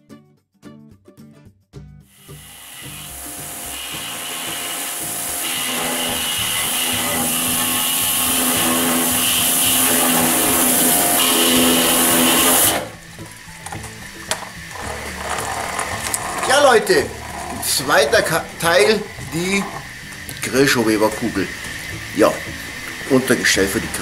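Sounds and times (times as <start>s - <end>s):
pressure washer motor whine: 2.1s - 24.0s
pressure washer water jet hissing: 2.1s - 24.0s.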